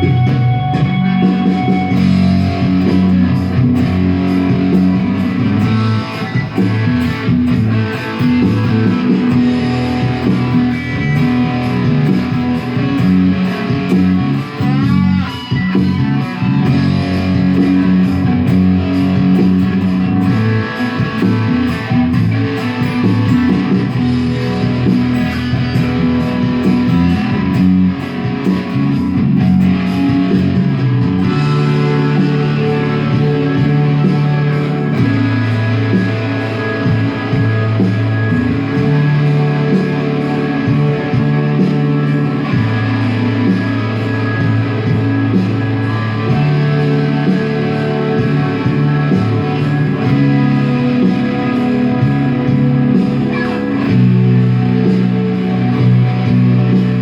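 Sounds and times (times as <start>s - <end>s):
rock music with electric guitar: 0.0s - 57.0s.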